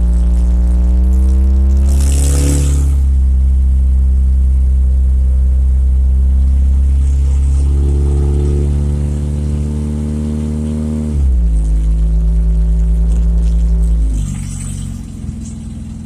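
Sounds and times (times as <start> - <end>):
car engine through loud exhaust: 0.0 - 16.0.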